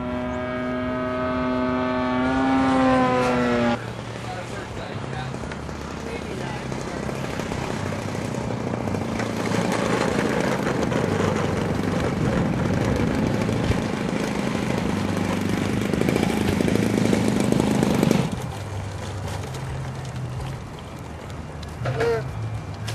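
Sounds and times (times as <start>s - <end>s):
model airplane engine and propeller: 0.0s - 22.9s.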